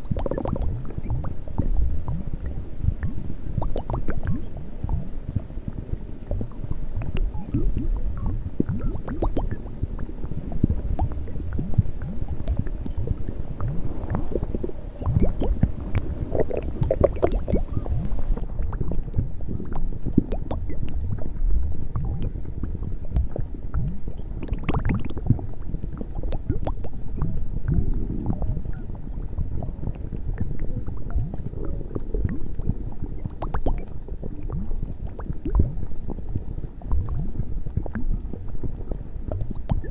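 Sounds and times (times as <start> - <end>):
stomach growling and gurgling: 0.0 - 39.9.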